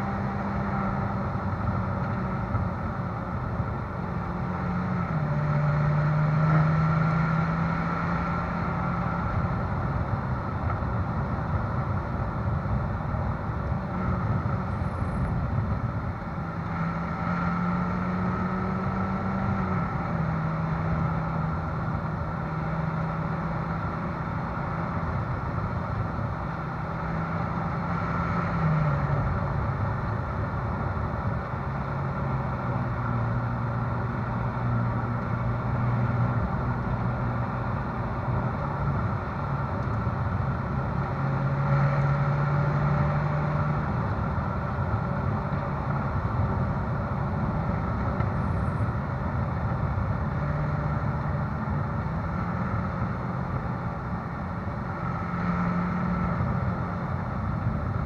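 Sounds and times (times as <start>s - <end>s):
car exhaust at low cruise: 0.0s - 58.0s
tyre and road noise: 0.0s - 58.0s.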